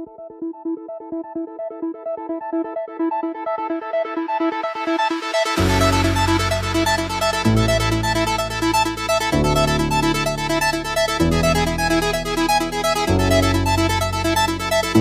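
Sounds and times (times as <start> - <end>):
synthesizer chords: 0.0 - 15.0.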